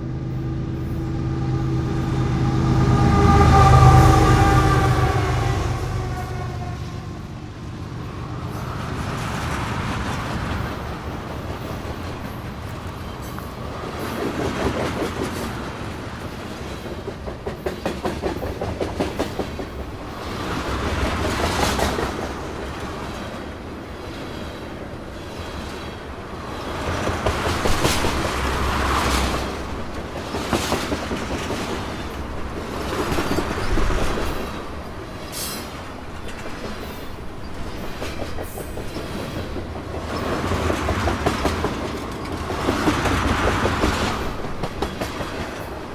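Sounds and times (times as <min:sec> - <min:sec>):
train wheels clattering over rail joints: 0:08.6 - 0:45.9.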